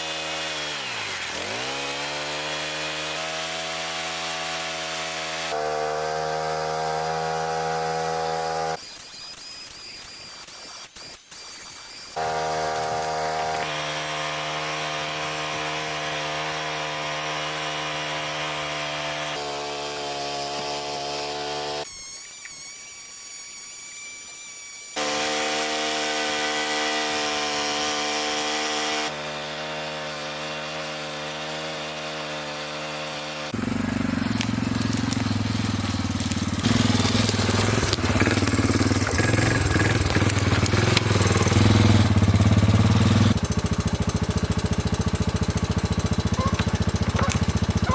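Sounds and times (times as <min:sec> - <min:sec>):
small gas engine running: 0:00.0 - 0:08.8, 0:12.2 - 0:22.0, 0:24.9 - 0:47.9.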